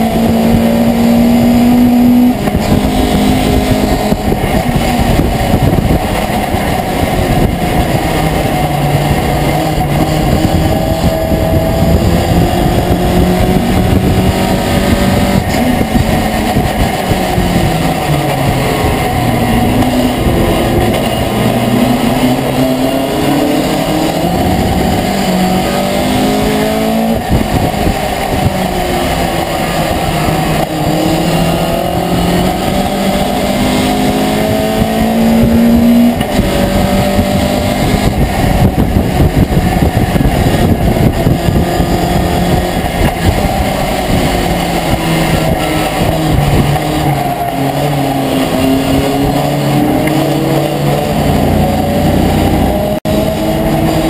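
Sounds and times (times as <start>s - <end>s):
racing truck engine revving: 0.0s - 54.0s
road and wind noise: 0.0s - 54.0s.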